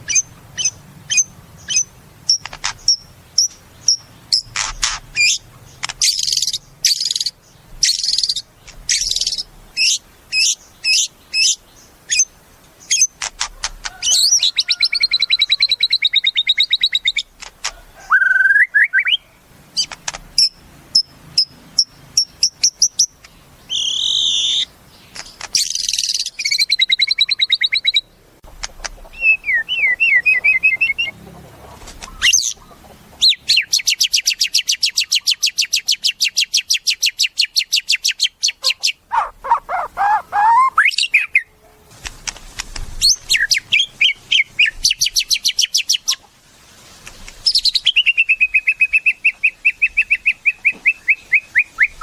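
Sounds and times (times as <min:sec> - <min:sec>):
songbird whistled song: 0:00.0 - 0:13.2, 0:13.9 - 0:17.3, 0:18.0 - 0:28.1, 0:29.0 - 0:31.2, 0:32.1 - 0:41.5, 0:43.0 - 0:46.2, 0:47.4 - 0:52.0.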